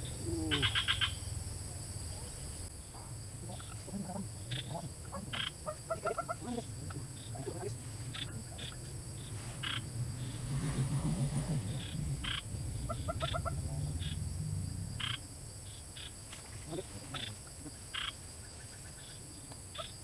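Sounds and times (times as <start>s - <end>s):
steady low hum: 0.0s - 17.9s
frogs croaking: 0.0s - 20.0s.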